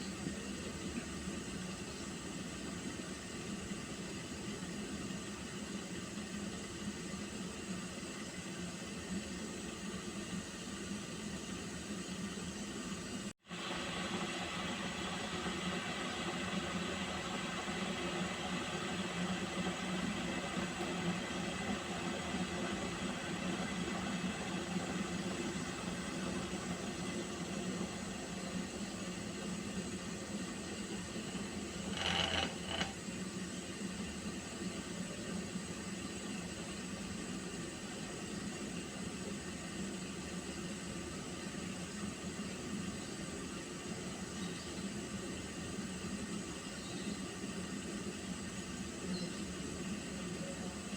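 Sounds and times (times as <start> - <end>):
water heating hiss: 0.0 - 50.9.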